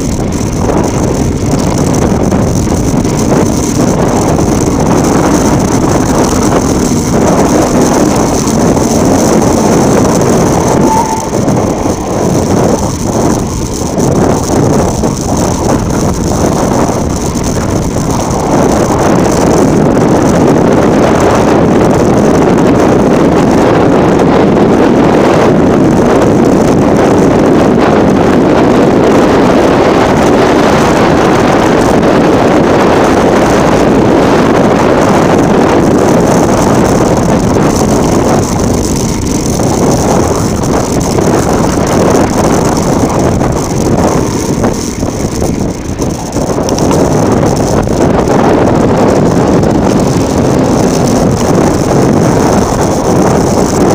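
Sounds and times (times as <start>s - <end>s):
bicycle tyres rolling on loose ground: 0.0s - 53.9s
wind rush over microphone: 0.0s - 53.9s.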